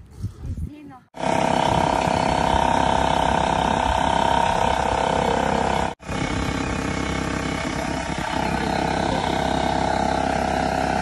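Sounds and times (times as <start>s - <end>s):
air compressor running: 1.2s - 11.0s.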